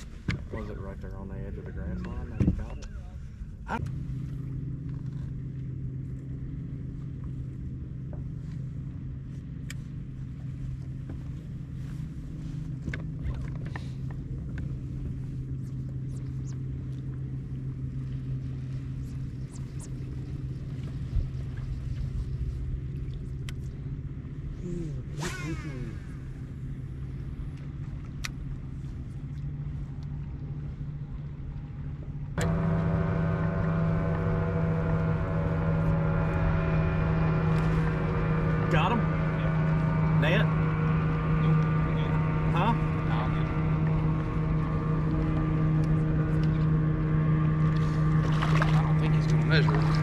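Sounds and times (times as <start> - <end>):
electric trolling motor humming: 0.3 - 50.0.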